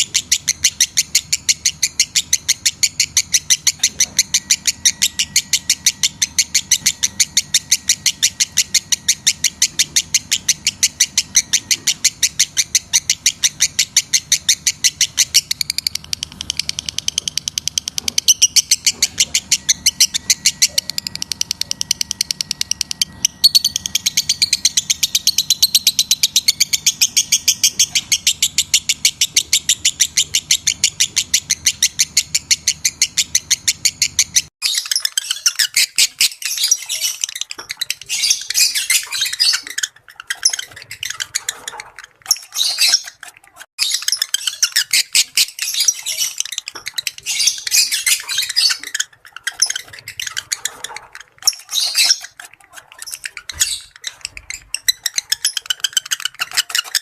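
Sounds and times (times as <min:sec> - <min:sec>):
lovebird chirping: 0:00.0 - 0:57.0.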